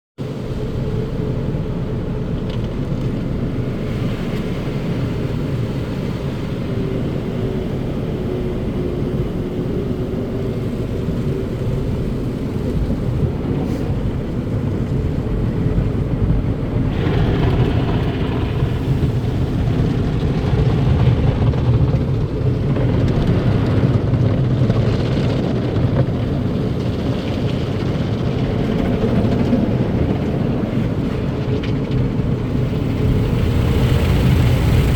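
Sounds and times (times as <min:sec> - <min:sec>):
car wash machinery rumble: 0:00.2 - 0:34.9.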